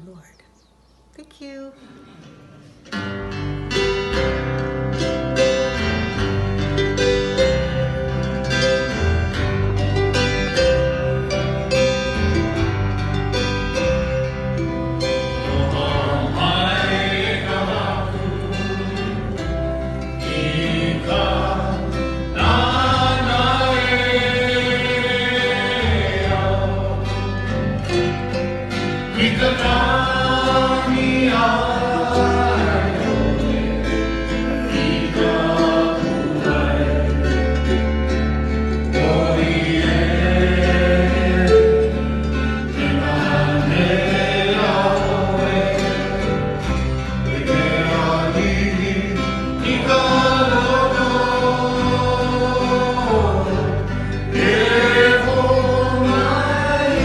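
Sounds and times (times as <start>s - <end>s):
worship song singing: 2.0s - 57.0s
low bass notes: 2.3s - 57.0s.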